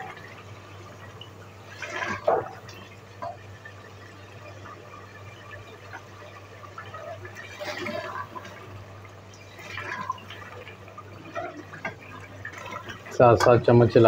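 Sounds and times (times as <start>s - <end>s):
curry bubbling and sputtering: 0.0s - 14.0s.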